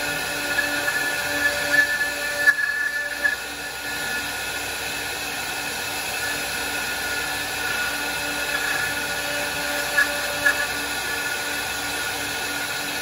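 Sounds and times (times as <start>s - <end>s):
machine hum and whine: 0.0s - 13.0s.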